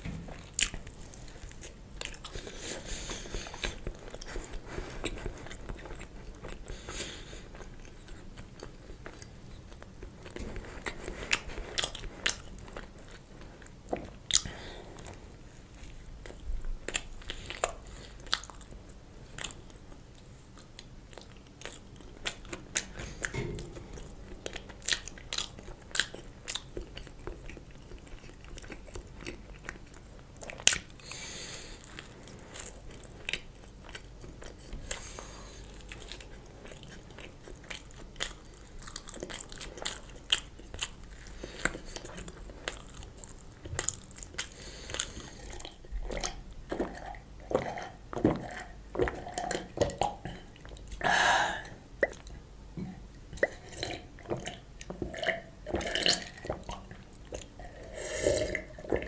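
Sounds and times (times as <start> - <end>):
chewing with wet mouth sounds: 0.0 - 51.0, 51.6 - 59.0.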